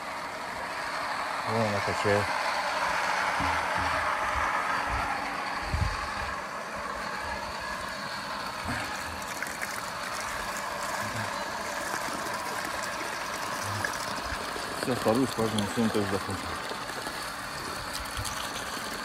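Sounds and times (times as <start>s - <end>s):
water pump running: 0.0s - 19.0s.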